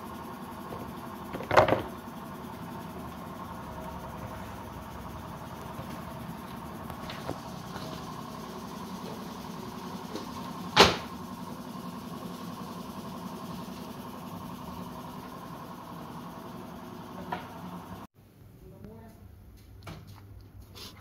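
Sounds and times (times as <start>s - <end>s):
workshop machinery humming: 0.0s - 21.0s.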